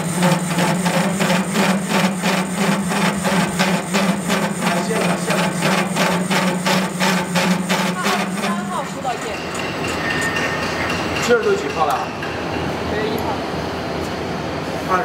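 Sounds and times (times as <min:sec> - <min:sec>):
lathe motor hum: 0:00.0 - 0:12.9.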